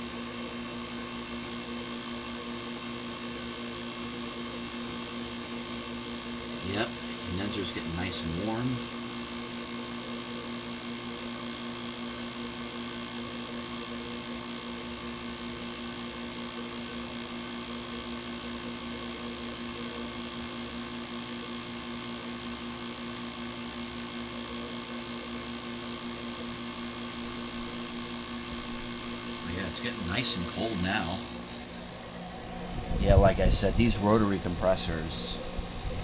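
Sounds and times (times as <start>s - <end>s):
air conditioner humming: 0.0s - 10.1s, 13.6s - 36.0s.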